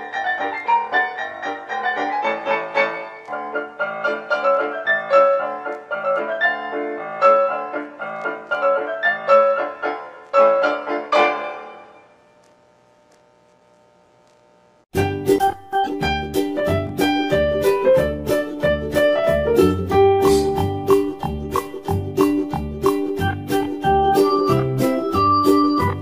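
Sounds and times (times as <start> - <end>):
lively piano tune: 0.0 - 12.0, 15.0 - 26.0.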